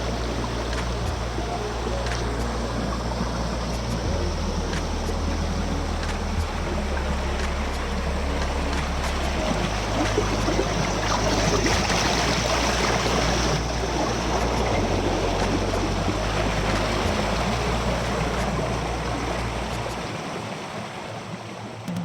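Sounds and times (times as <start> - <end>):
waterfall rushing and splashing: 0.0 - 21.9.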